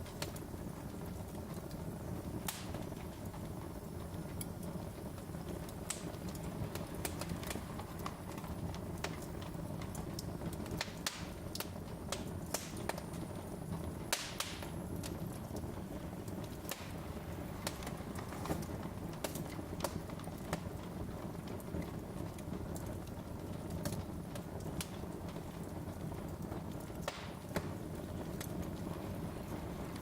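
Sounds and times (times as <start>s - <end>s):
low rumble of burning logs: 0.0s - 30.0s
wood fire crackling: 0.0s - 30.0s.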